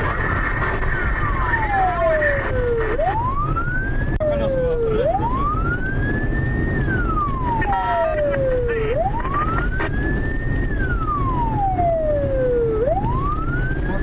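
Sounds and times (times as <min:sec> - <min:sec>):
cars driving at speed: 0:00.0 - 0:14.0
police siren wailing: 0:00.0 - 0:14.0.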